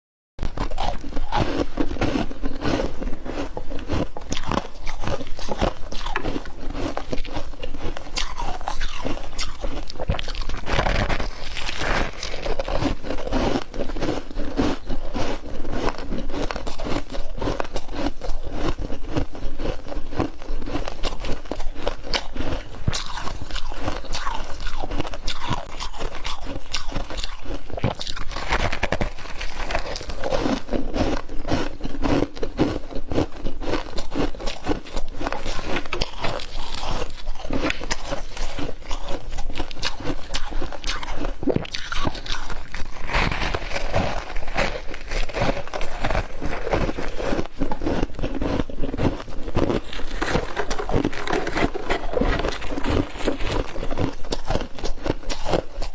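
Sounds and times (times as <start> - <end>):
chewing crunchy frost: 0.4 - 55.9.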